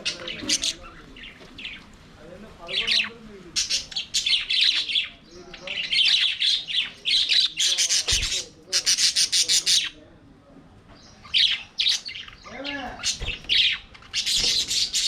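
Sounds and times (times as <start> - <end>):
budgerigars chattering and warbling: 0.0 - 1.9, 2.7 - 10.0, 11.0 - 15.0.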